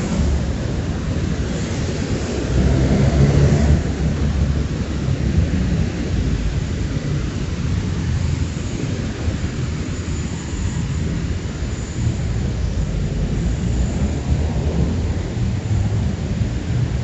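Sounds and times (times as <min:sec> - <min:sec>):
road traffic rumble: 0:00.0 - 0:17.0
tyres hissing on wet road: 0:00.0 - 0:17.0.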